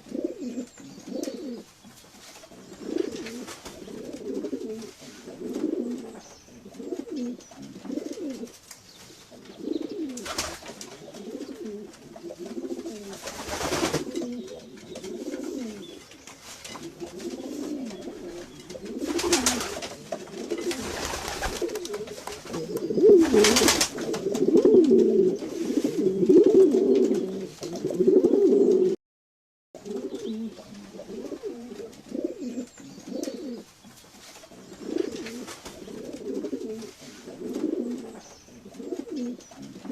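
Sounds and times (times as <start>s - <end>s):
pigeons cooing: 0.0s - 1.8s, 2.5s - 29.0s, 29.8s - 33.7s, 34.5s - 39.9s.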